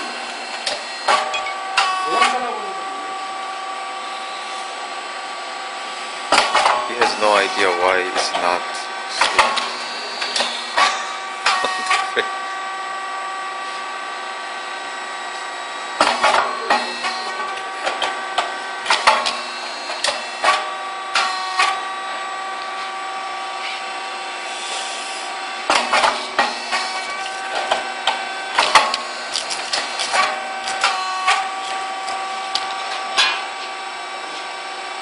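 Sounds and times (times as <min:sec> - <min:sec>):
machine mechanical hum: 0:00.0 - 0:35.0.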